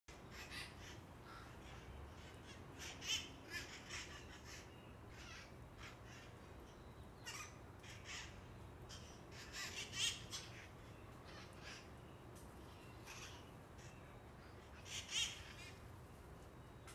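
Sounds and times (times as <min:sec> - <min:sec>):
parakeets screeching squawks: 0:00.2 - 0:06.5, 0:07.2 - 0:12.0, 0:13.0 - 0:15.8.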